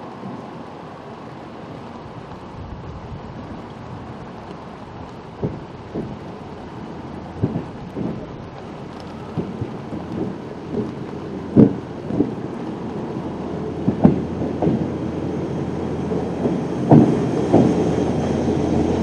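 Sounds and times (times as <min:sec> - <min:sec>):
rail car rumbling: 0:00.0 - 0:19.0.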